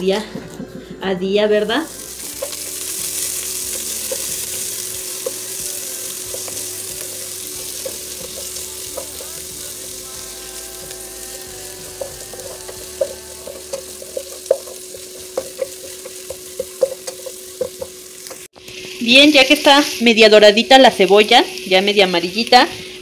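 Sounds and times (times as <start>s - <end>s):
onion sizzling in hot oil: 0.0s - 23.0s.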